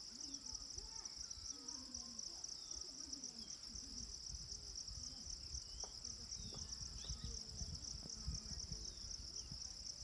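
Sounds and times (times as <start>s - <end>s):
faint distant voices: 0.0s - 10.0s.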